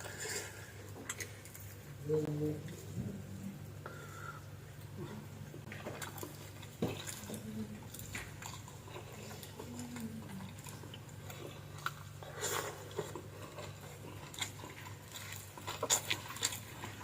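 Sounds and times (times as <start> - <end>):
person chewing: 0.0 - 2.0, 2.6 - 17.0.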